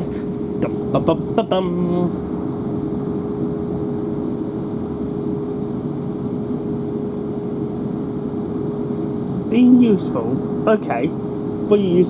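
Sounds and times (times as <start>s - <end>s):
constant hum-like tone: 0.0s - 12.0s
train interior rumble and hiss: 0.0s - 12.0s.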